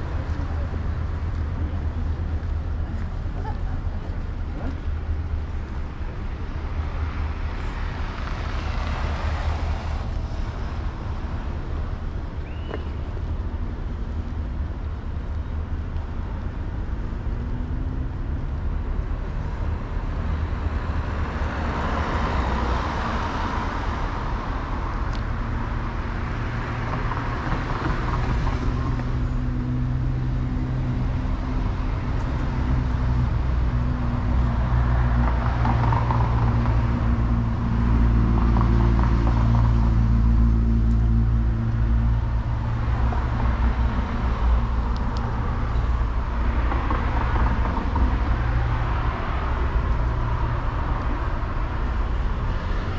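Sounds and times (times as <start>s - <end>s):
traffic rumble: 0.0s - 52.9s
vehicles passing: 0.0s - 52.9s.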